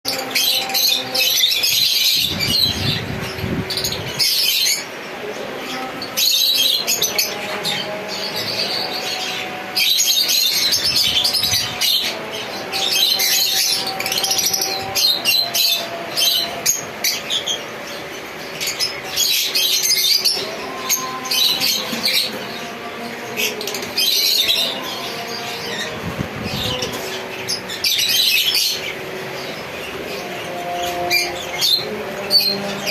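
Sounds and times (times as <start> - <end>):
parrots squawking and chattering: 0.1 - 32.9.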